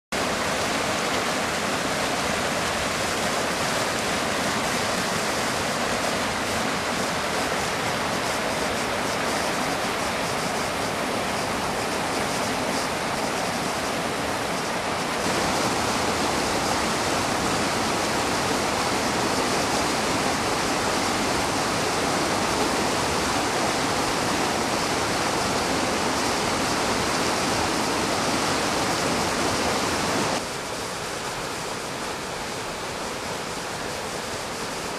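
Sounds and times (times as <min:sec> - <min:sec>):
river rushing through rapids: 0:00.2 - 0:34.9.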